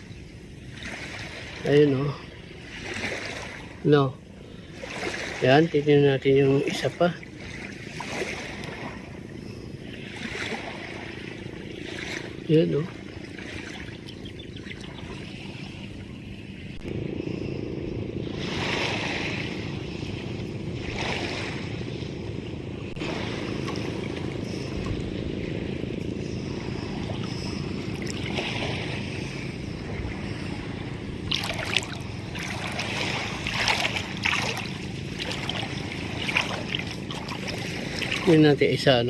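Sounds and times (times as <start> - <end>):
sea water washing: 0.0 - 39.0
wind on microphone: 6.2 - 39.0.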